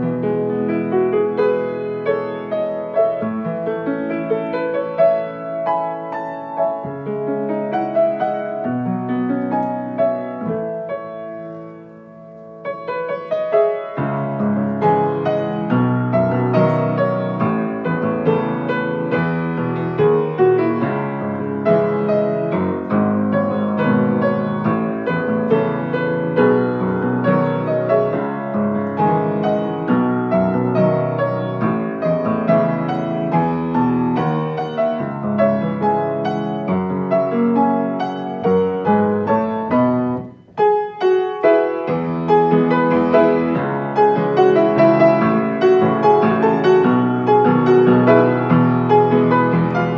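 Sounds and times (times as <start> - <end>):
solo piano melody over chords: 0.0 - 49.9.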